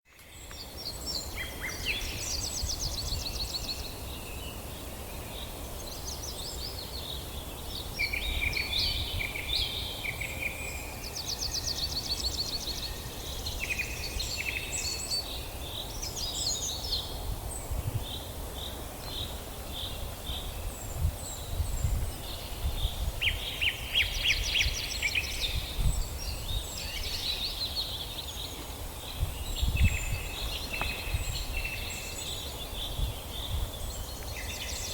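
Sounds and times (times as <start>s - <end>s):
songbirds singing and calling: 0.1s - 34.9s.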